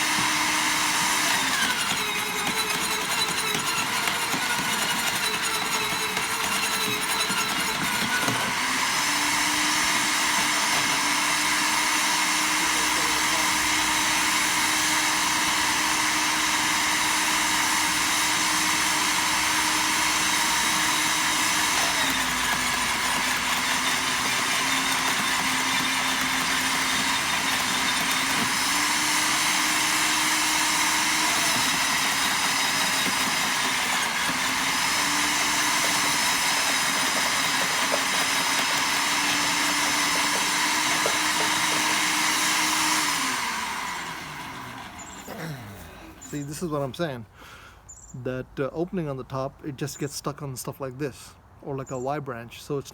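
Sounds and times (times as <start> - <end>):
electric wood chipper running: 0.0 - 46.8.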